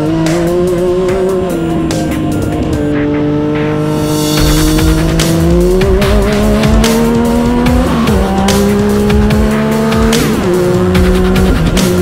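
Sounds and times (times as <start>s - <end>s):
engine accelerating and shifting: 0.0s - 12.0s.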